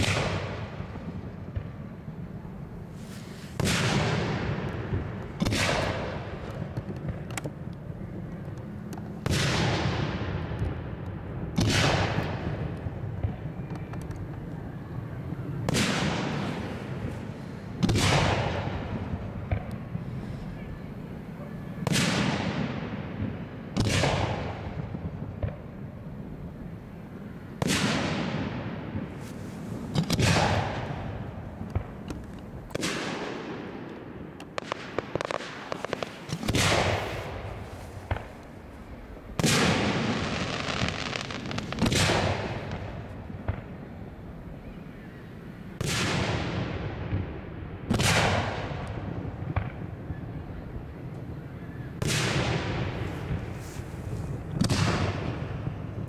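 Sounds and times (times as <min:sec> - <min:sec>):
firework shells booming: 0:00.0 - 0:02.0, 0:03.0 - 0:07.6, 0:08.4 - 0:14.6, 0:15.2 - 0:43.9, 0:45.8 - 0:50.1, 0:52.0 - 0:53.6, 0:54.3 - 0:56.0
firework crackling: 0:00.0 - 0:45.0, 0:52.0 - 0:56.0.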